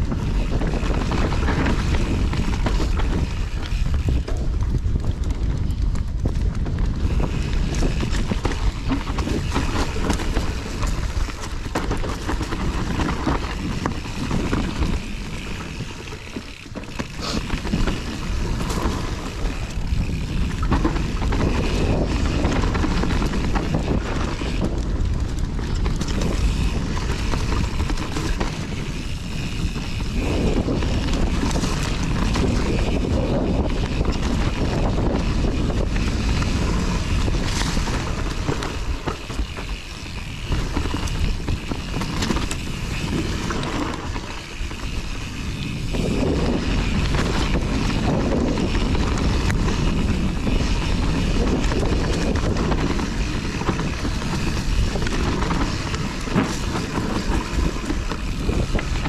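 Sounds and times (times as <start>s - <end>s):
bike rattling and knocking: 0.0s - 59.0s
tyres rolling on dirt: 0.0s - 59.0s
wind buffeting microphone: 0.0s - 59.0s.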